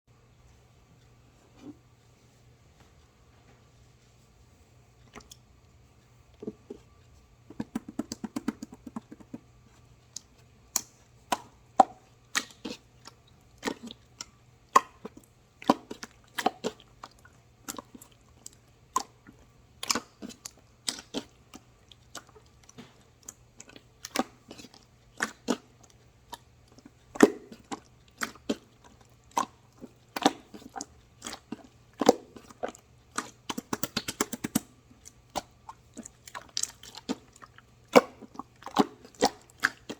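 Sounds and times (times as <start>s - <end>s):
crisp irregular clicks and crunches: 5.0s - 39.9s.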